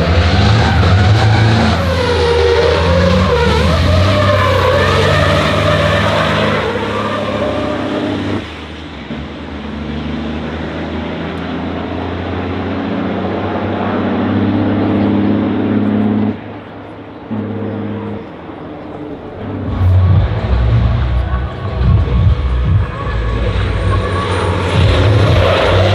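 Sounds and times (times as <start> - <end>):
racing truck engines: 0.0 - 25.9.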